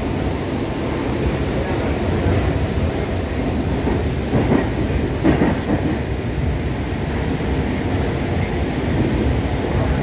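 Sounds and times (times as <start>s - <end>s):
metro train rumble inside car: 0.0s - 10.0s.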